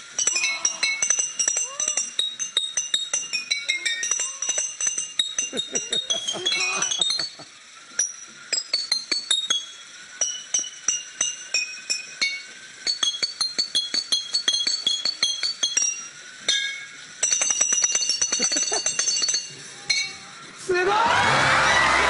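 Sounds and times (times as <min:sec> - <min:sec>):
glass bottles clinking a tune: 0:00.0 - 0:21.3.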